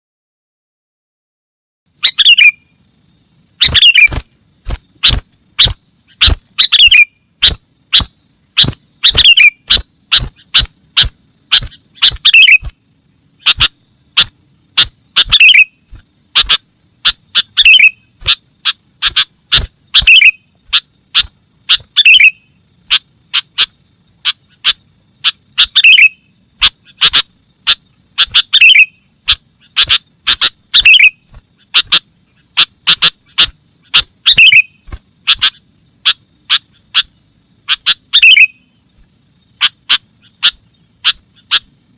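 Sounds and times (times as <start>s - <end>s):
bird calls: 1.9s - 41.9s
high insect trilling: 1.9s - 41.9s.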